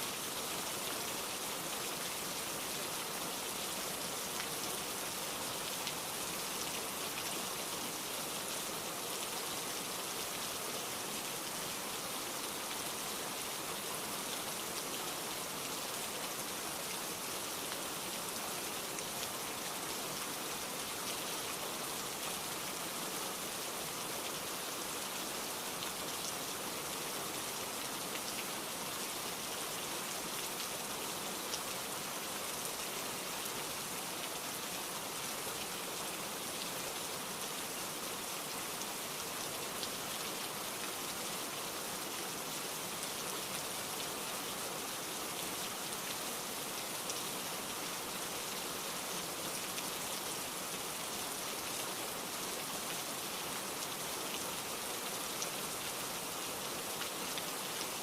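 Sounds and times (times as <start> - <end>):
rain downpour: 0.0 - 58.0.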